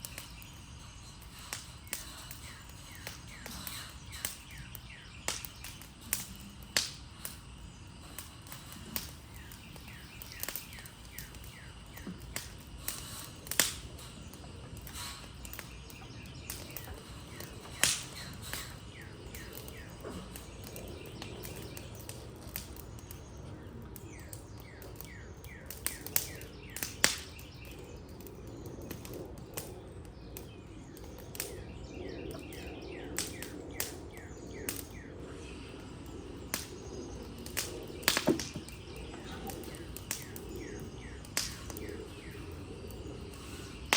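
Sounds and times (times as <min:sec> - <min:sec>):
birds chirping trills: 0:00.0 - 0:43.9
wood fire crackling and popping: 0:00.0 - 0:43.9.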